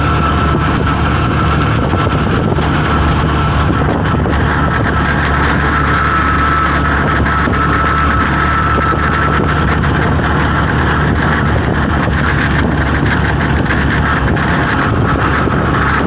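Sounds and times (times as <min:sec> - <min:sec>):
motorcycle engine droning: 0:00.0 - 0:16.0
road noise: 0:00.0 - 0:16.0
wind noise: 0:00.0 - 0:16.0.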